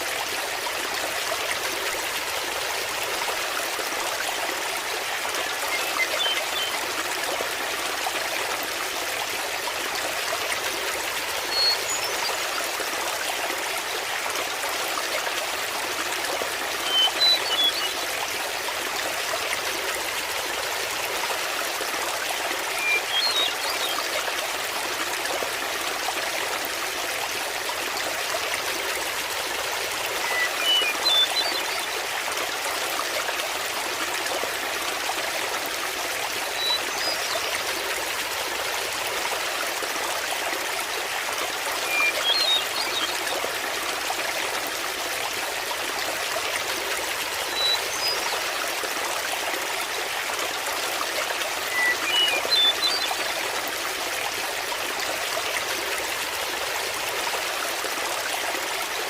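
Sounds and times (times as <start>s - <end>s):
waterfall running: 0.0s - 59.0s.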